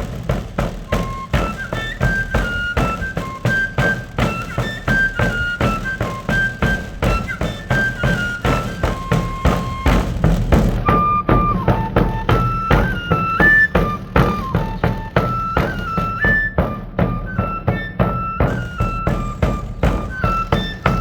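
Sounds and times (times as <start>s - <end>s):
regular drumbeat: 0.0s - 21.0s
shrill pipe melody: 0.9s - 21.0s.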